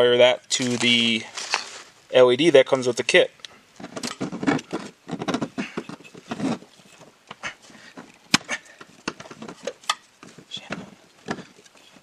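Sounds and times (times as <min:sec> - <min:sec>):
hands rustling and scraping: 0:00.5 - 0:02.0, 0:03.8 - 0:12.0.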